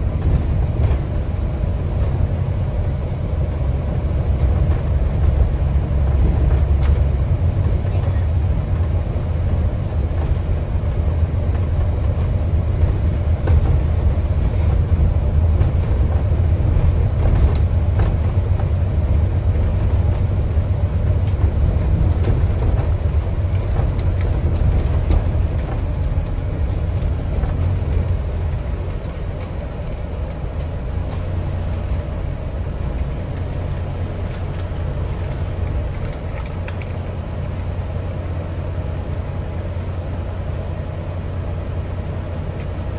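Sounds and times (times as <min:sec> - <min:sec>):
bus drivetrain and road rumble: 0:00.0 - 0:42.9.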